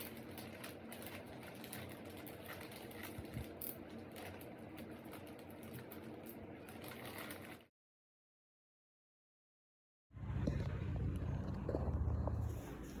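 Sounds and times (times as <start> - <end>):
steady background hum: 0.0 - 7.7, 10.2 - 13.0.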